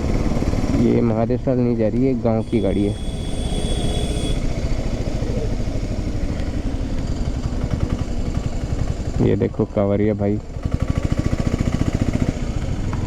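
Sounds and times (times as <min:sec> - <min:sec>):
motorcycle engine running: 0:00.0 - 0:13.0
road rumble: 0:00.0 - 0:13.0.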